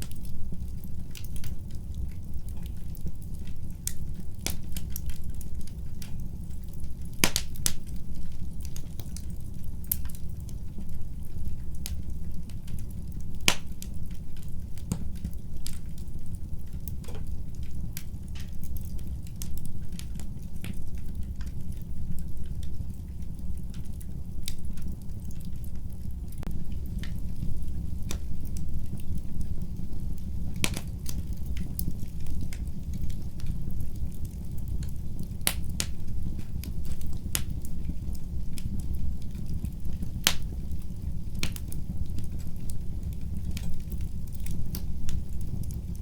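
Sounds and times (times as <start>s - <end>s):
fire crackling and popping: 0.0s - 46.0s.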